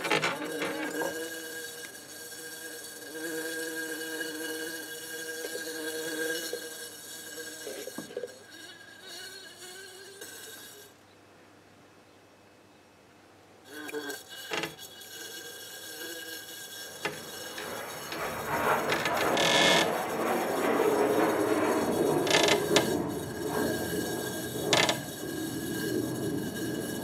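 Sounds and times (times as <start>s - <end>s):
bumblebee buzzing against glass: 0.0s - 11.0s, 13.7s - 27.0s.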